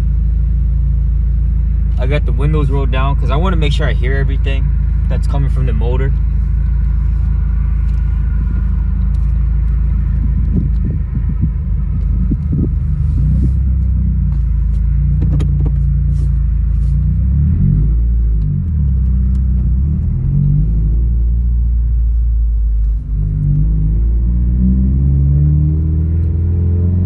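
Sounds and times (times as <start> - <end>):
car engine running: 0.0 - 27.0
road noise: 0.0 - 27.0.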